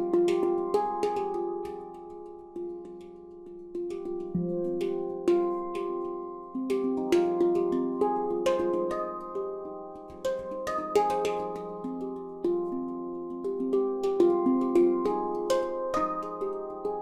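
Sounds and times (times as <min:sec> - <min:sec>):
handpan notes ringing: 0:00.0 - 0:17.0.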